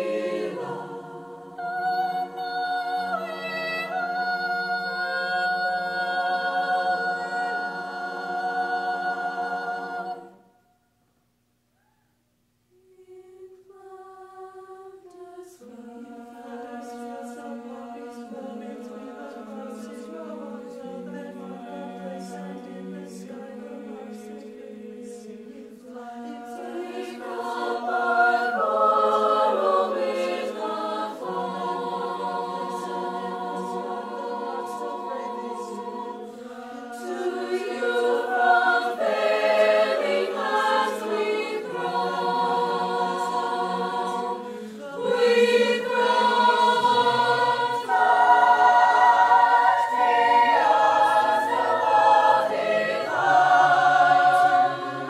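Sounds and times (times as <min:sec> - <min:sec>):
choir singing a cappella: 0:00.0 - 0:10.7, 0:12.8 - 0:55.0.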